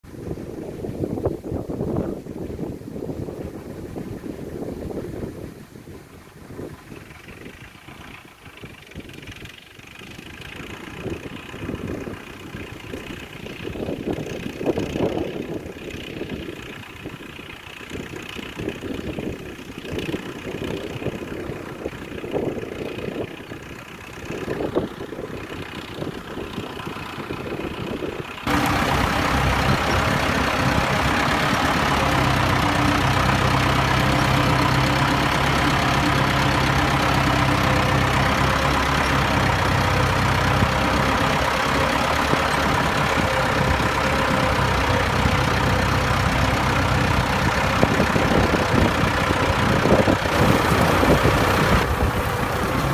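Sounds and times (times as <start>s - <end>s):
tractor engine running: 6.4s - 52.9s.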